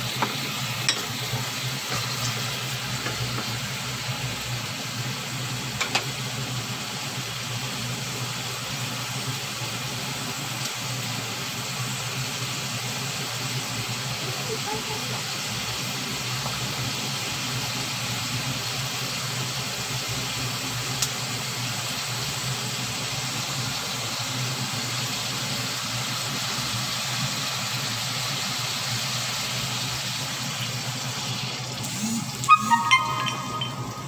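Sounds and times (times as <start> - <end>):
gas burner hiss: 0.0 - 32.5.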